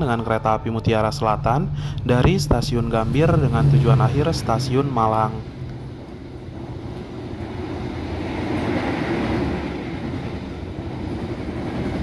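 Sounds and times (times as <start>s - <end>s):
train carriages rushing past: 0.0s - 12.0s.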